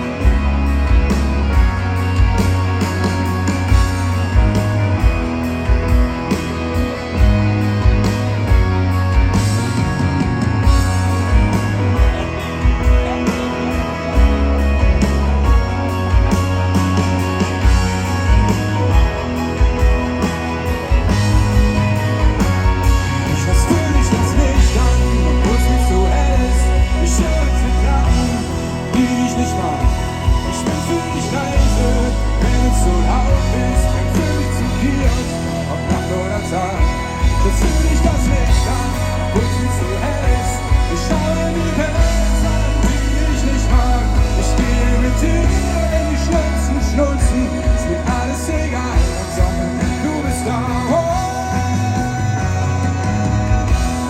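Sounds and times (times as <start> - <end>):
bass: 0.0 - 54.0
electric guitars: 0.0 - 54.0
live pop-rock band playing: 0.0 - 54.0
steady drum beat: 0.0 - 54.0.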